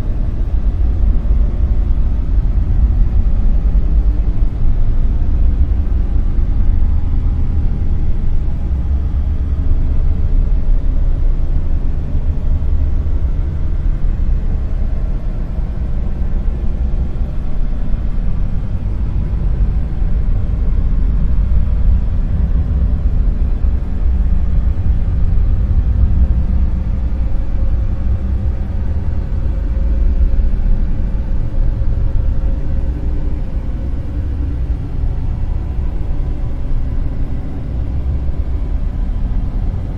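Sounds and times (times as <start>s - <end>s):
deep low dark noise: 0.0s - 39.9s.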